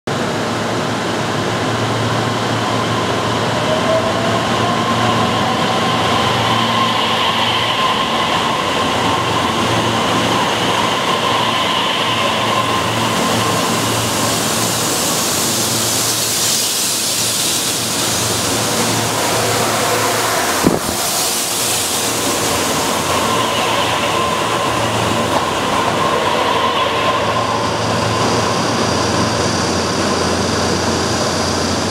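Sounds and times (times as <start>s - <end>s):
train running hum: 0.1s - 31.9s
train wheels passing: 0.1s - 31.9s.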